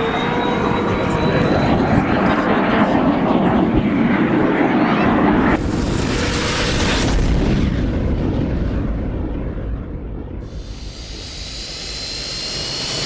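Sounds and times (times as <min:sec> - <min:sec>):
low-passing aircraft engine: 0:00.0 - 0:13.0.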